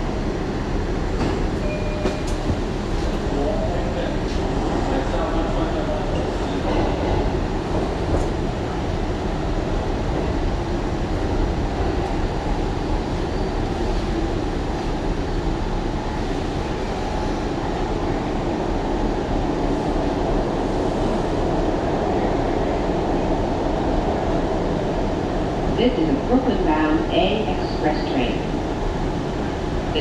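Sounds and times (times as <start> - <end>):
subway train wheels rumbling on rail: 0.0 - 30.0.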